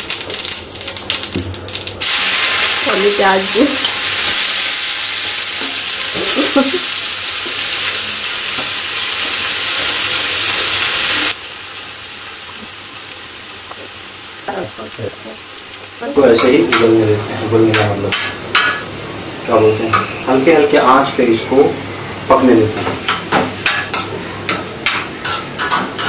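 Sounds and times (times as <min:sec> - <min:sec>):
hot oil sizzling: 0:00.0 - 0:26.0.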